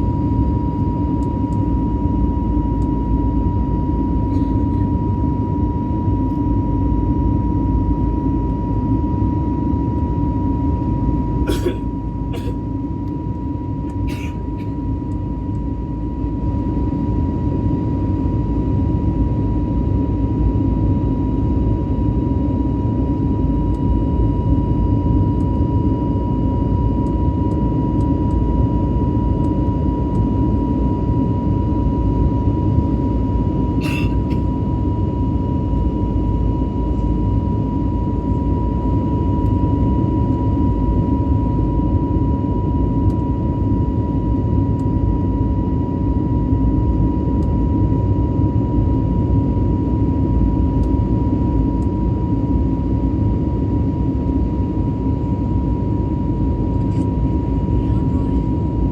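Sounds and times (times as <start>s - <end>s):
jet engines rumbling in cabin: 0.0s - 58.9s.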